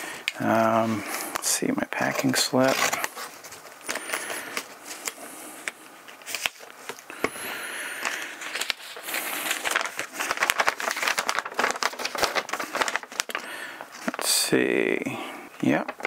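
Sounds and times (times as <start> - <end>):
crinkling plastic pouch: 0.2 - 14.4
paper rustling: 0.2 - 14.4.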